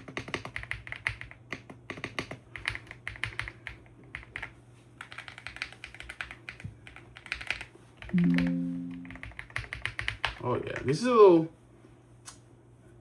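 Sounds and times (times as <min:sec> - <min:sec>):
mechanical keyboard typing: 0:00.0 - 0:10.4.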